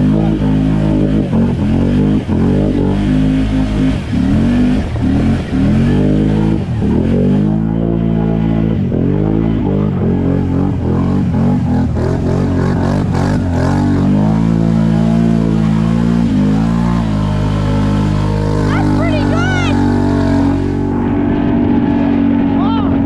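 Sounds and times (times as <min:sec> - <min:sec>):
atv engine under throttle: 0:00.0 - 0:23.0.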